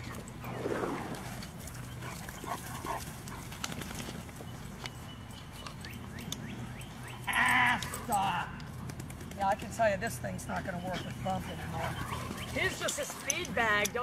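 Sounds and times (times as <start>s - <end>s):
dog paws clicking and pattering: 1.4s - 14.0s.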